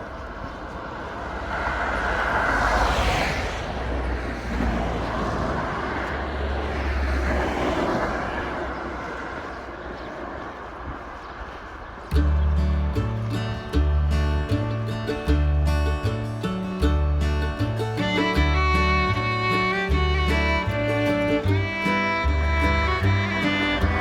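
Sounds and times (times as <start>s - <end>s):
steady low rumble: 0.0s - 24.0s
vehicles passing: 0.0s - 24.0s.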